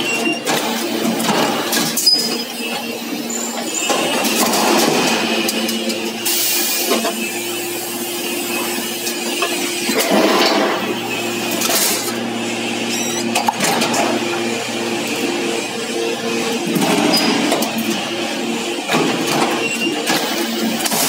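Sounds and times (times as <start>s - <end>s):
hydraulic press machine hum: 0.0s - 21.0s.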